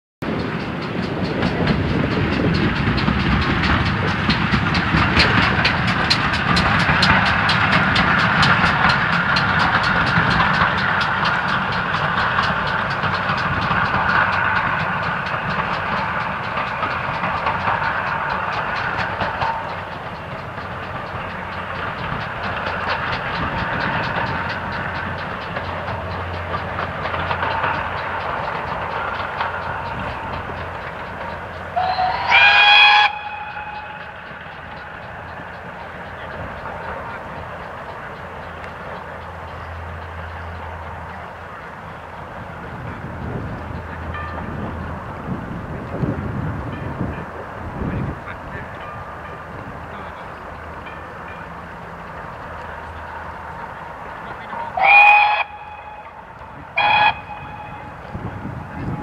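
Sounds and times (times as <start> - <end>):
train rumble: 0.2 - 59.0
train wheels clicking over rail joints: 0.2 - 59.0.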